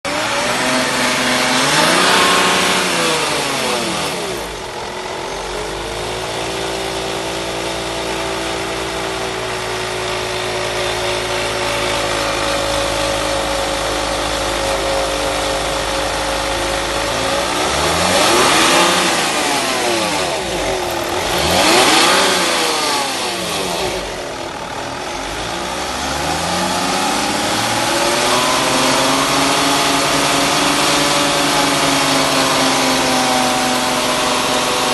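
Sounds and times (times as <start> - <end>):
car engine idling and revving: 0.0 - 34.9
extraneous engine noise: 0.0 - 34.9.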